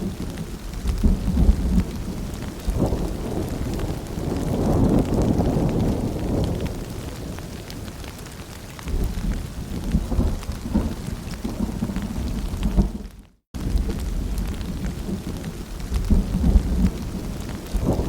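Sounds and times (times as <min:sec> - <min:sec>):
low rumbling thunder: 0:00.0 - 0:08.2, 0:08.9 - 0:18.0
rain falling: 0:00.0 - 0:18.0.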